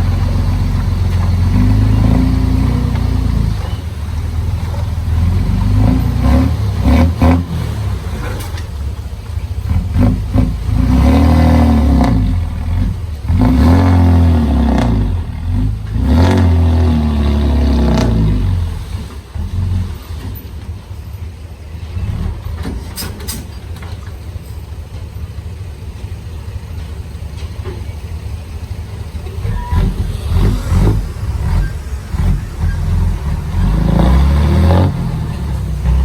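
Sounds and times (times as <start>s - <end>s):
heavy diesel engine rumbling: 0.0s - 36.0s.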